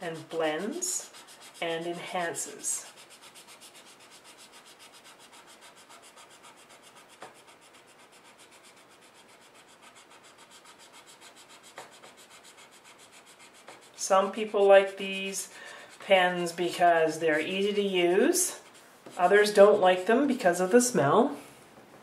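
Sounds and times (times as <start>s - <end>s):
marker scrubbing on paper: 0.0s - 20.9s.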